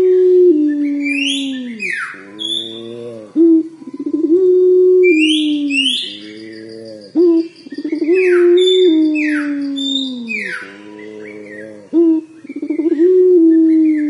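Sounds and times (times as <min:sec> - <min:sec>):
dove cooing: 0:00.0 - 0:14.0
small birds chirping: 0:00.7 - 0:04.4, 0:05.1 - 0:14.0.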